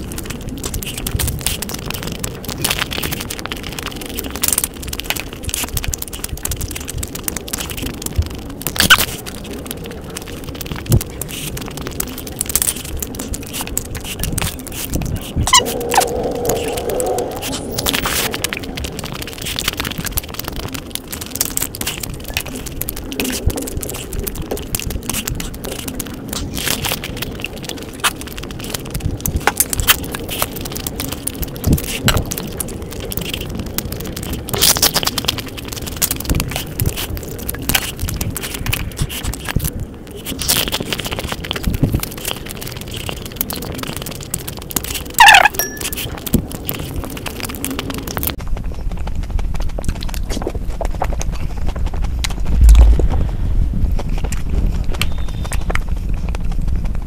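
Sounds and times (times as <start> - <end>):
crunchy chewing: 0.0 - 48.4.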